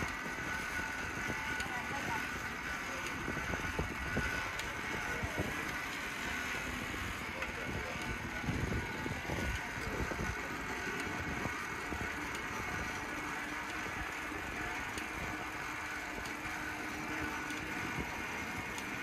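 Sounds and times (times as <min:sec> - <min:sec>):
bicycle rolling and rattling: 0:00.0 - 0:19.0.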